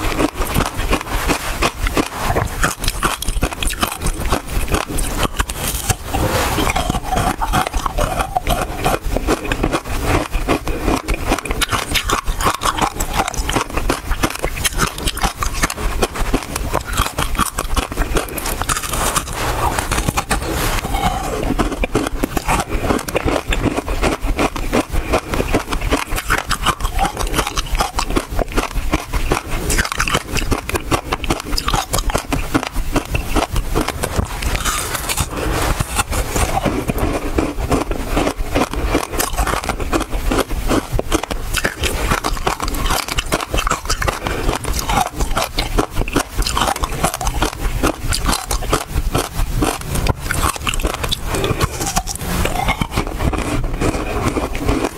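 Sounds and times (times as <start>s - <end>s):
ice crunching when chewed: 0.0s - 54.9s.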